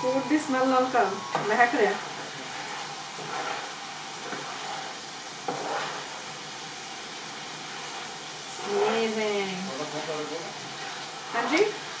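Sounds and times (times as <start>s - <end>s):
food sizzling in a pan: 0.0s - 12.0s
kitchen exhaust fan whirring: 0.0s - 12.0s.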